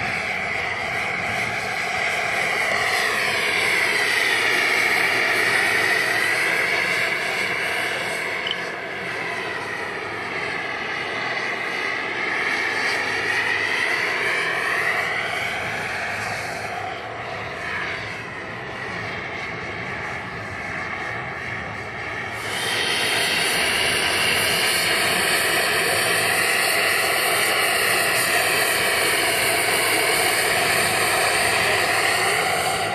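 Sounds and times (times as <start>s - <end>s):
gas-turbine engine whine: 0.0s - 32.9s.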